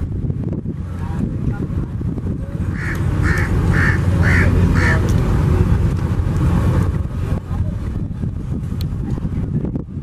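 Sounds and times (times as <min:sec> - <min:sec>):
choppy water: 0:00.0 - 0:10.0
wind buffeting microphone: 0:00.0 - 0:10.0.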